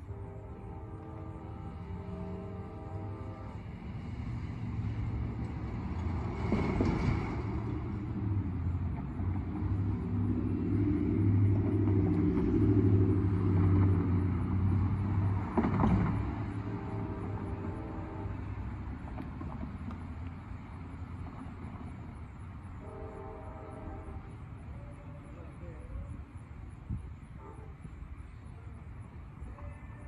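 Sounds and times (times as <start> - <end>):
diesel locomotive engine rumbling: 0.0 - 30.0.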